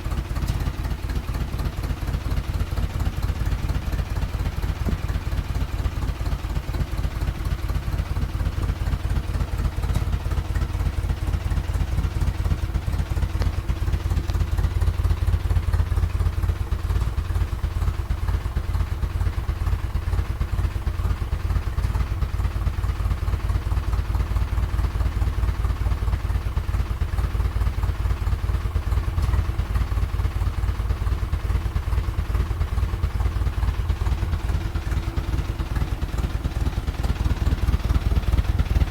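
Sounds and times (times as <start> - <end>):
petrol engine running: 0.0 - 25.4, 26.0 - 38.9.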